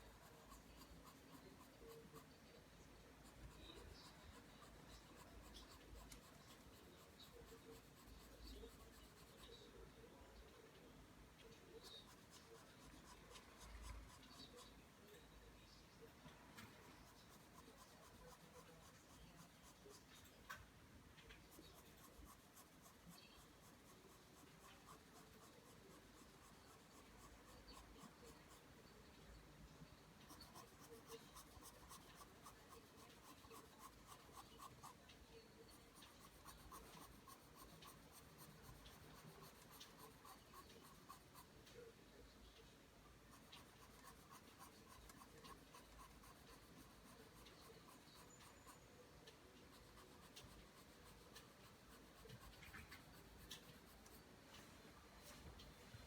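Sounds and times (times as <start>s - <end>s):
pencil scratching on paper: 0.0s - 10.2s, 11.4s - 15.2s, 16.0s - 20.6s, 21.2s - 28.8s, 29.9s - 42.0s, 43.1s - 54.7s.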